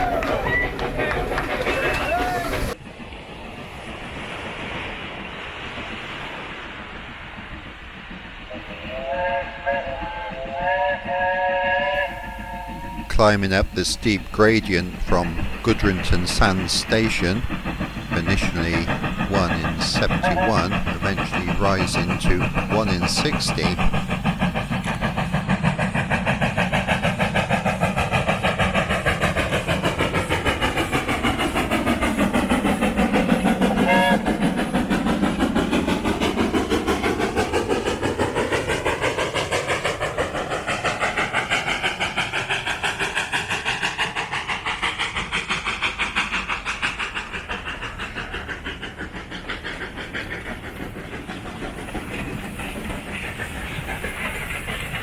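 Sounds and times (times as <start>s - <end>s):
steam locomotive exhaust beats: 0.0s - 55.0s.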